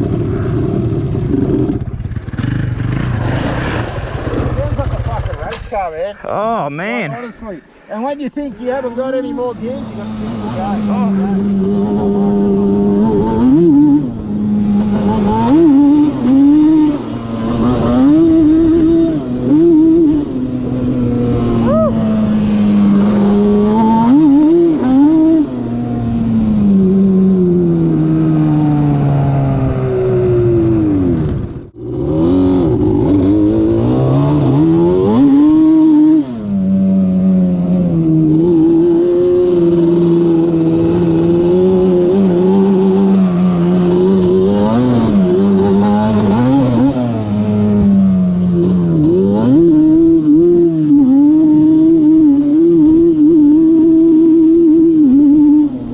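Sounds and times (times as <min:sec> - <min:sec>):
two-stroke engine revving: 0:00.0 - 0:05.7, 0:08.6 - 0:55.9.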